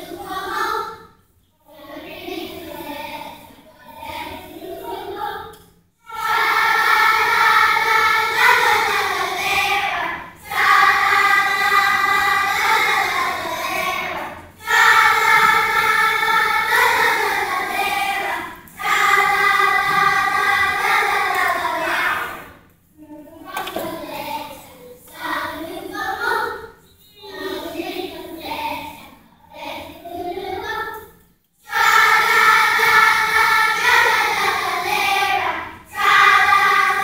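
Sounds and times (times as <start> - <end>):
children's choir singing: 0.0 - 37.0.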